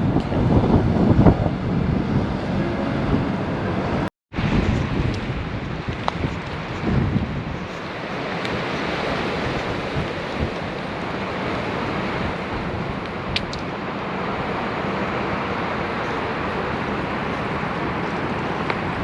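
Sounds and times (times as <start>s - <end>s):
waves washing at shore: 0.0s - 19.0s
wind buffeting microphone: 0.0s - 19.0s.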